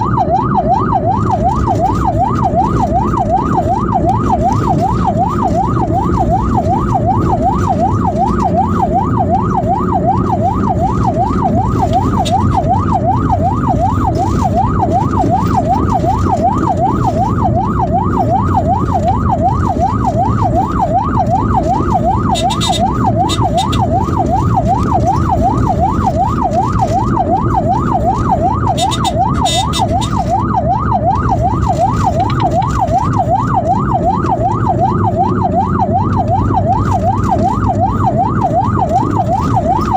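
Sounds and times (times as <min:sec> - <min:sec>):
ambulance siren yelping: 0:00.0 - 0:39.9
vehicle rumble: 0:00.0 - 0:39.9.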